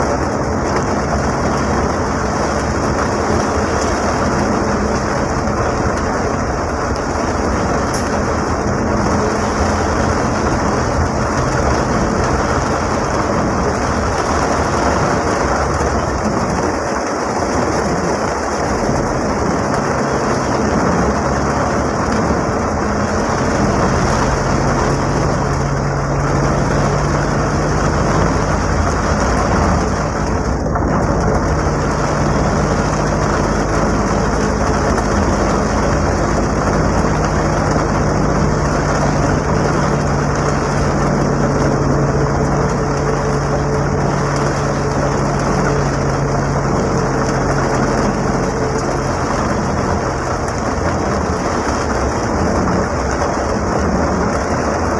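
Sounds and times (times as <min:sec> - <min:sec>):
engine hum: 0:00.0 - 0:54.9
rain on a van roof: 0:00.0 - 0:54.9.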